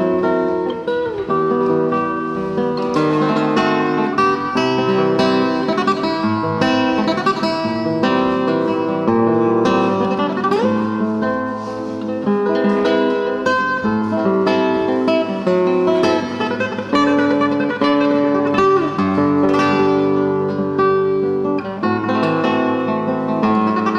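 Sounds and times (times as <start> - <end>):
acoustic guitar melody: 0.0 - 23.9.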